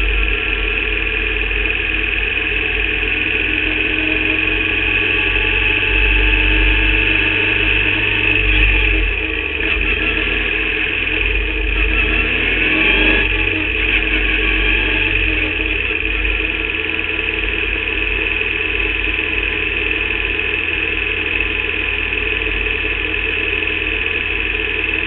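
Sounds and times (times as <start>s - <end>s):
race car engine running: 0.0s - 25.0s.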